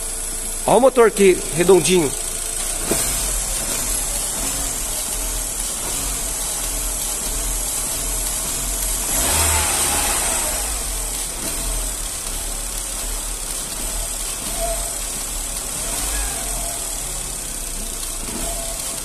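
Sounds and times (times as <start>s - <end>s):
car engine idling: 0.0s - 19.0s
engine revving: 0.0s - 19.0s.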